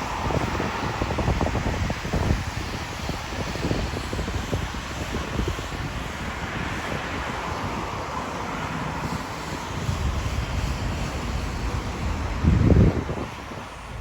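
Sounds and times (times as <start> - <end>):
steady rushing noise: 0.0 - 14.0
wind buffeting microphone: 0.0 - 14.0.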